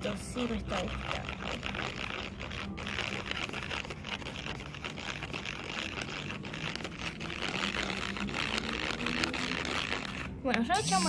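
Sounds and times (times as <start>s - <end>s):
paintbrush scraping in a bowl: 0.0s - 11.0s.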